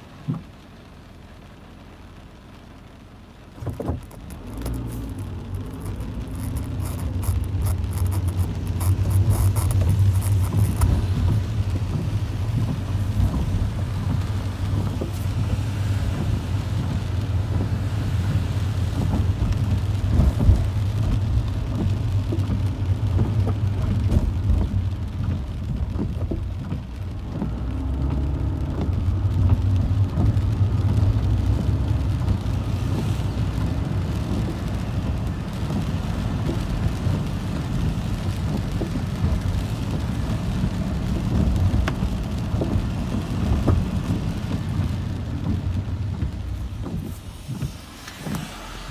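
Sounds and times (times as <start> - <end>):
car tyres rumbling on wet road: 0.0 - 48.9
rain and spray hissing on car: 0.0 - 48.9.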